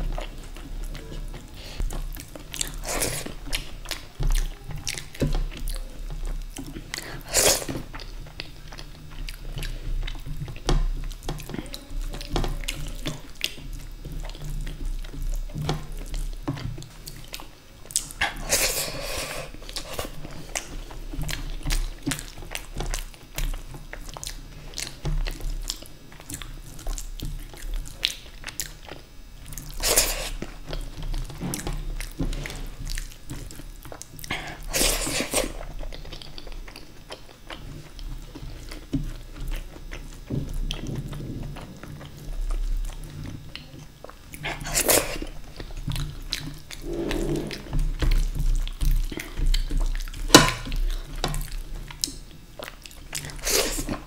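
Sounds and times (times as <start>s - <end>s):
chewing with wet mouth clicks: 0.0s - 18.6s, 19.6s - 46.9s, 47.9s - 54.0s.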